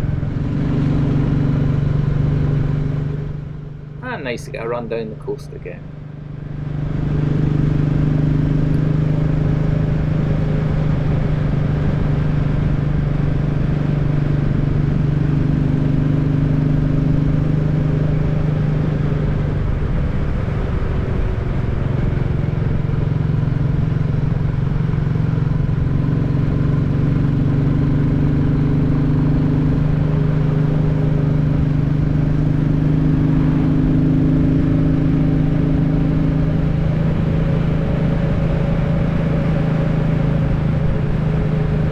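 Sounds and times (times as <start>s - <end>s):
motorcycle engine cruising: 0.0s - 41.9s
road rumble: 0.0s - 41.9s
wind: 0.0s - 41.9s.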